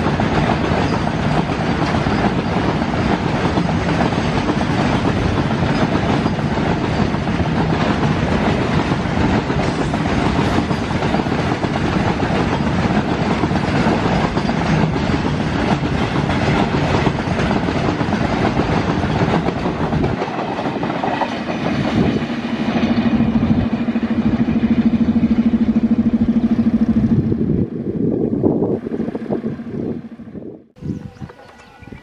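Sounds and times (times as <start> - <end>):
train wheels clattering over rails: 0.0 - 27.2.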